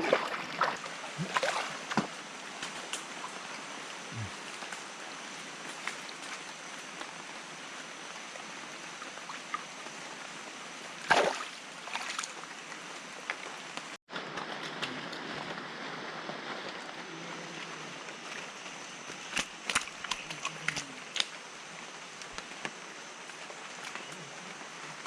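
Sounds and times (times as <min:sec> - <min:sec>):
creek water flowing: 0:00.0 - 0:25.0.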